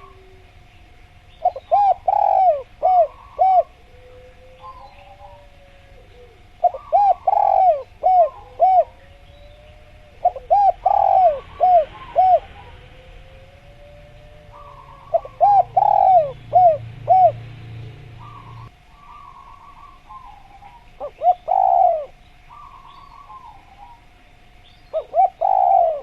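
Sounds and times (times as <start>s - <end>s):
birds chirping: 0.0s - 26.0s
dove cooing: 0.0s - 26.0s.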